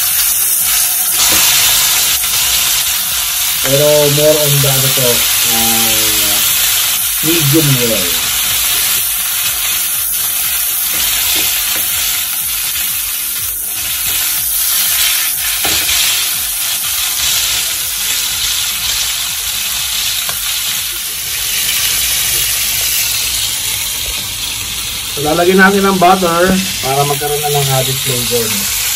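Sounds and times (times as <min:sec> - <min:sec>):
steaks sizzling in a pan: 0:00.0 - 0:28.9.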